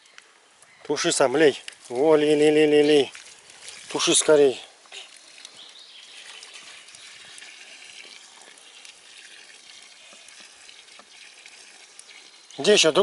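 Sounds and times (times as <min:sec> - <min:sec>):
water sizzling on hot embers: 0:00.1 - 0:13.0
fire crackling: 0:01.3 - 0:13.0.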